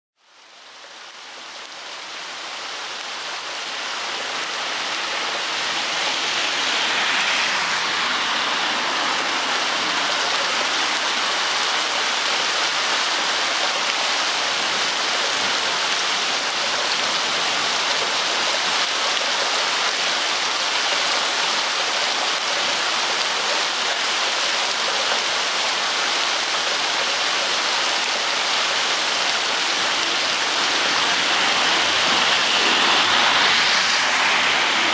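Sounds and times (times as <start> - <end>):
steady rain: 0.2 - 34.9.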